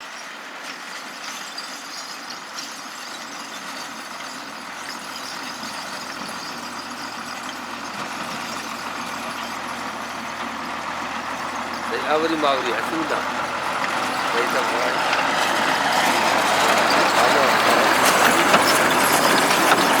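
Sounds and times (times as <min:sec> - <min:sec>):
truck engine running: 0:03.0 - 0:20.0.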